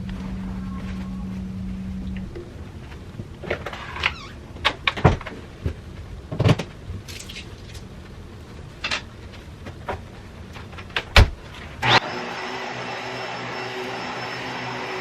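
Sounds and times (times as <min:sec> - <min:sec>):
mechanical hum with faint whine: 0:00.0 - 0:15.0.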